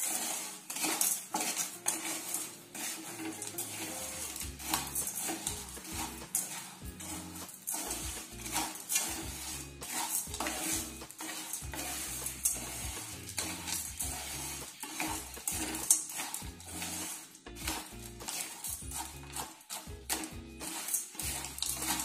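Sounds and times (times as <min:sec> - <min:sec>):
wooden spatula scraping sugar in pan: 0:00.0 - 0:22.0.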